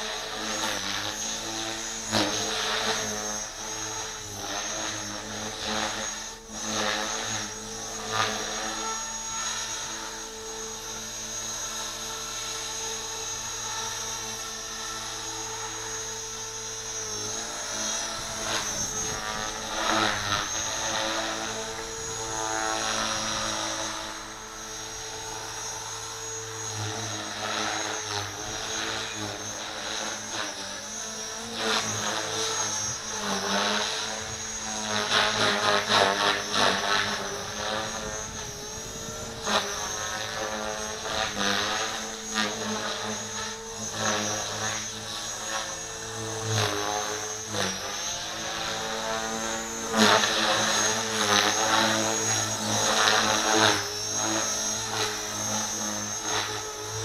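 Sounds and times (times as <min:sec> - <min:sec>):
electric motor whine: 0:00.0 - 0:57.0
helicopter rotor blades chopping: 0:00.0 - 0:57.0.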